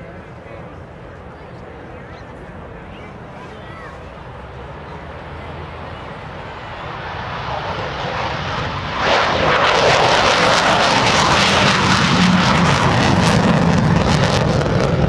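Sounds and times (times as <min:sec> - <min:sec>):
jet engines roaring in afterburner: 0:00.0 - 0:15.0.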